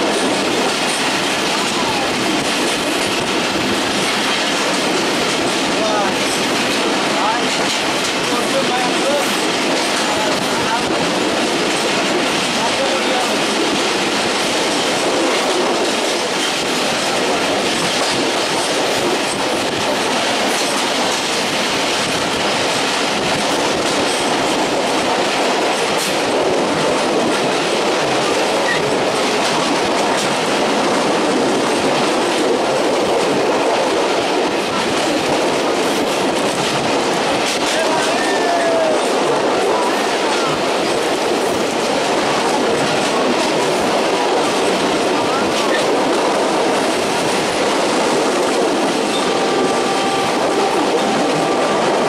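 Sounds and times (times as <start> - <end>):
train wheels on rails: 0.0 - 52.0.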